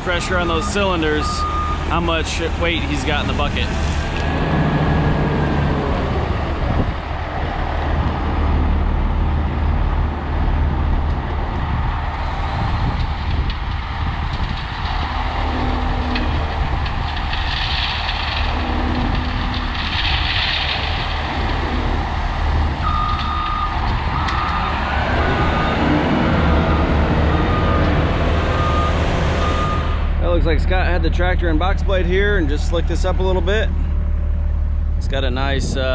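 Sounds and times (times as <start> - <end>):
diesel truck engine droning: 0.0 - 35.9.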